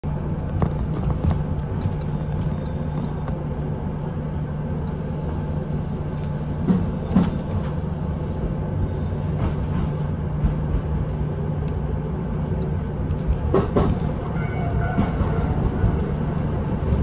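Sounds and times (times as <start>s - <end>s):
train running low rumble: 0.0s - 17.0s.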